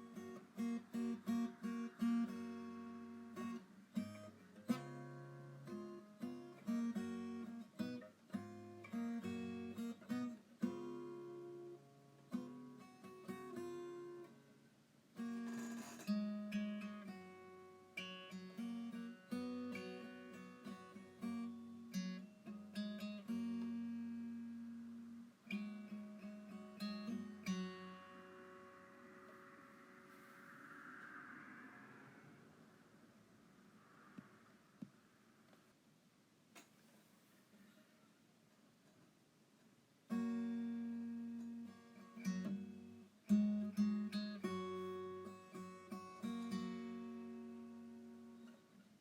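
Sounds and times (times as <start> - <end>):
acoustic guitar music: 0.0 - 30.6, 40.0 - 49.0.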